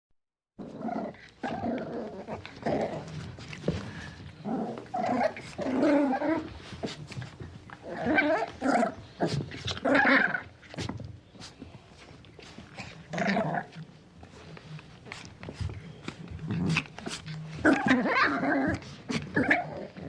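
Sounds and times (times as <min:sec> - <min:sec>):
puppy growling: 0:00.6 - 0:11.0, 0:12.6 - 0:20.0.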